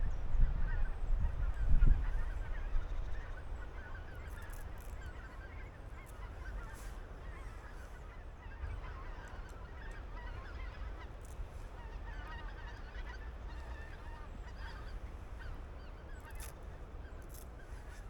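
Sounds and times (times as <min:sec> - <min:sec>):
low rumble of wind: 0:00.0 - 0:18.0.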